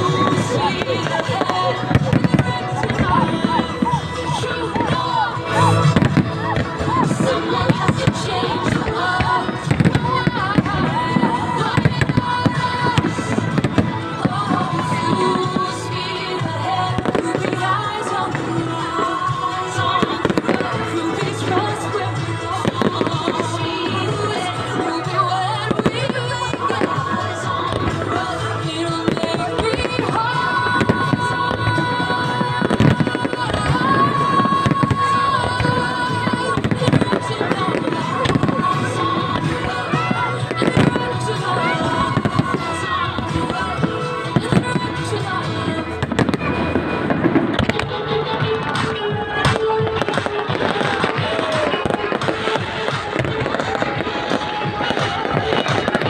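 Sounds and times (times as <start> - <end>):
fireworks bursting and crackling: 0.0 - 56.0
music with sustained notes: 0.0 - 56.0.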